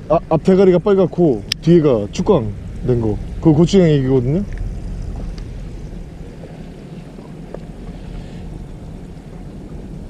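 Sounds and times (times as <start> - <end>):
boat engine humming: 0.0 - 10.0
sea water washing: 0.0 - 10.0
wind noise on microphone: 0.0 - 10.0.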